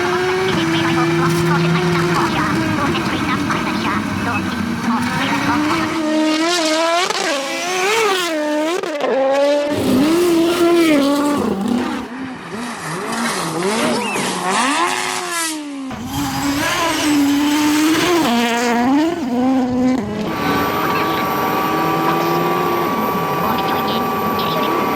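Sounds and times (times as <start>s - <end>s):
rally car engines revving: 0.0s - 24.9s.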